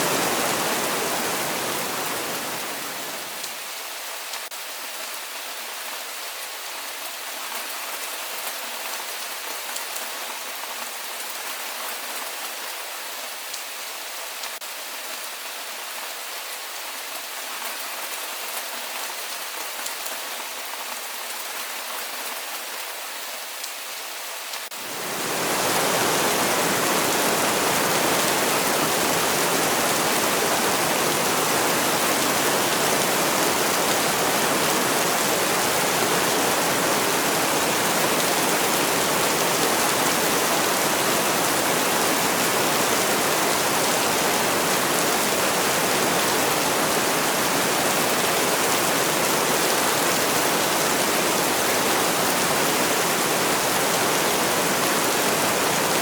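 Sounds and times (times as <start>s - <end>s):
rain falling: 0.0s - 14.7s, 23.6s - 56.0s.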